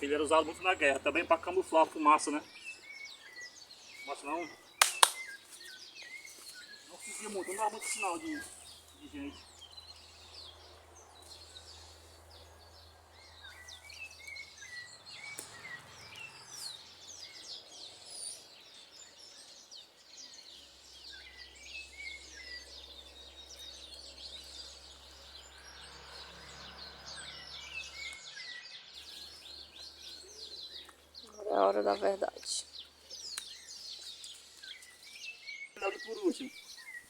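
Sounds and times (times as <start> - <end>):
birds chirping and calling: 0.0 - 37.0.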